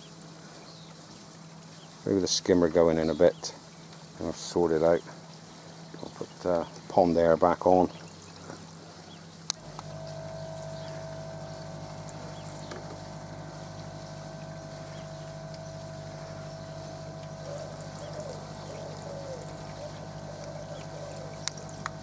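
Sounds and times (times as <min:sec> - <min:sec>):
air pump humming: 0:00.0 - 0:22.0
thin steady whine: 0:00.0 - 0:22.0.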